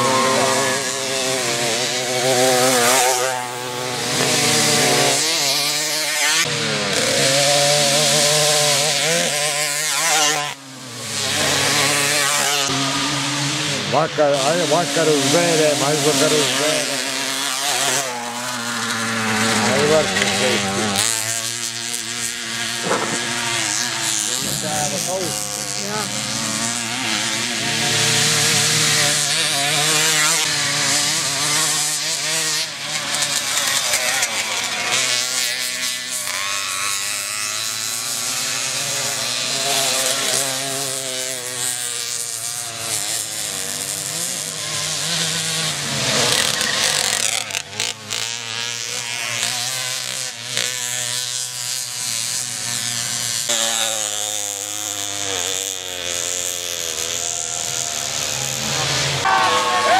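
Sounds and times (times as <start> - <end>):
moped engines revving: 0.0 - 59.9.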